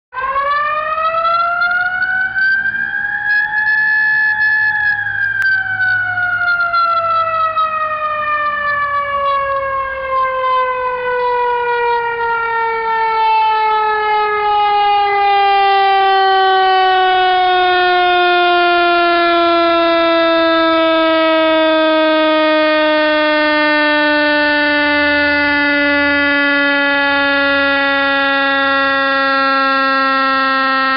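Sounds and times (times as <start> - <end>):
electronic siren rising and falling: 0.2 - 30.9.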